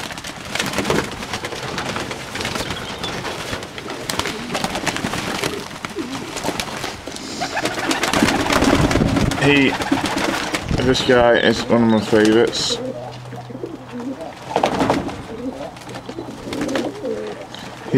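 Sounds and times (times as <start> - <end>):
wings flapping: 0.0 - 17.9
pigeons cooing: 1.7 - 17.9.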